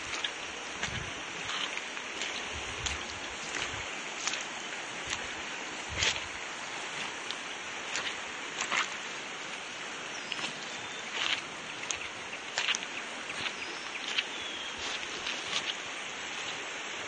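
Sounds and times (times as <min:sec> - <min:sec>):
footsteps on wet stony ground: 0:00.0 - 0:16.7
flowing river water: 0:00.0 - 0:17.0.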